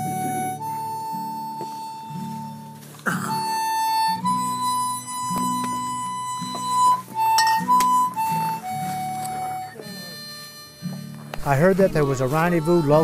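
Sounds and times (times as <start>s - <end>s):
acoustic guitar chords: 0.0s - 13.0s
harmonica playing slow tune: 0.0s - 13.0s.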